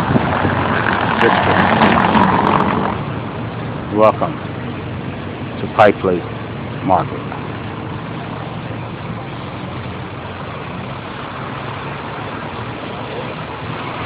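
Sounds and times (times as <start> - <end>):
car engines passing: 0.0 - 14.0
low engine hum: 0.0 - 14.0
street noise: 0.0 - 14.0.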